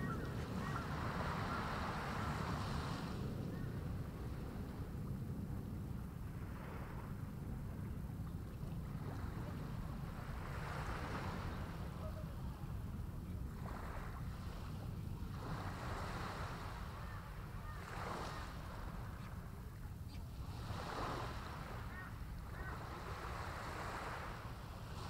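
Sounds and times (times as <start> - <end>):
small waves washing on shore: 0.0 - 25.0
wind rumble on microphone: 0.0 - 25.0.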